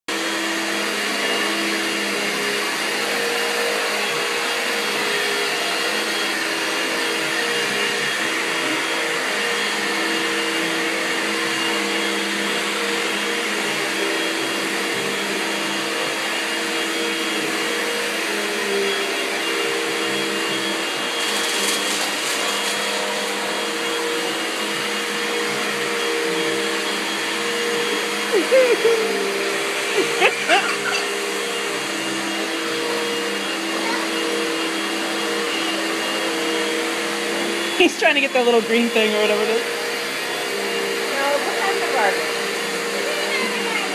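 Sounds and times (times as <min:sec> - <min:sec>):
vacuum cleaner running on carpet: 0:00.1 - 0:43.9.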